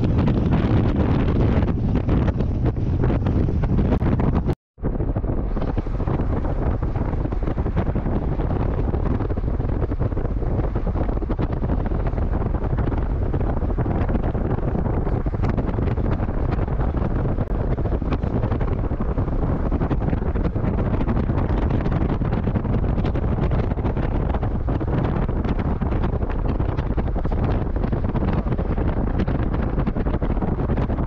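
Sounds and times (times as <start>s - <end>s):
car road noise rumble: 0.0s - 31.0s
wind buffeting microphone: 0.0s - 31.0s.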